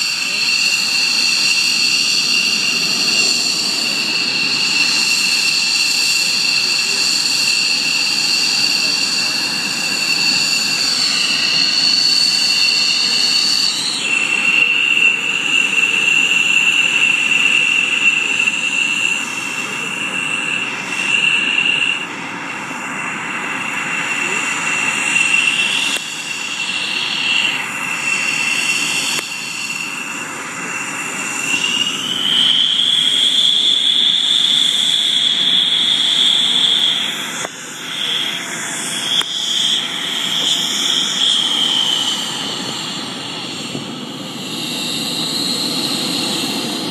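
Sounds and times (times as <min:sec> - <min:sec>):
jet engine whining: 0:00.0 - 0:46.9.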